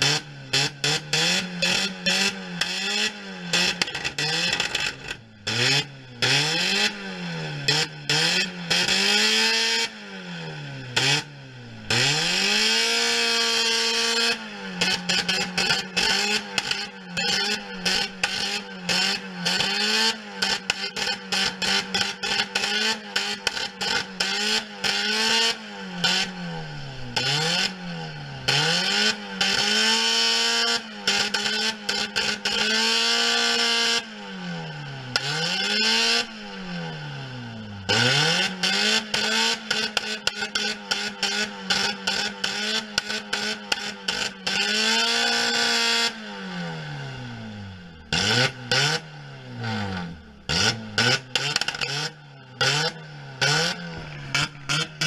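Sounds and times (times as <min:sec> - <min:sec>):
car engine revving at high revs: 0:00.0 - 0:55.0.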